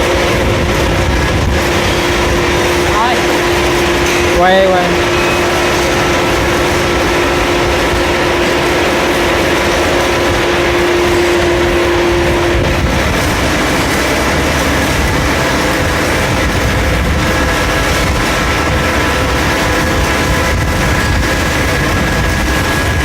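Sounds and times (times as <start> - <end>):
held tone: 0.0 - 22.4
cnc machine running: 0.0 - 23.0
higher tones: 0.0 - 23.0.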